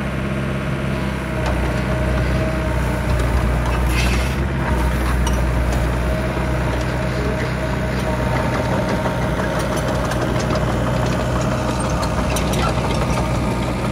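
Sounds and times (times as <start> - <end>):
diesel engine running steadily: 0.0 - 13.9.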